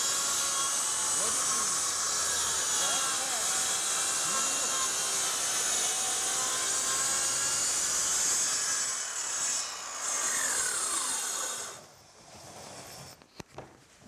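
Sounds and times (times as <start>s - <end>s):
circular saw cutting board: 0.0s - 13.2s.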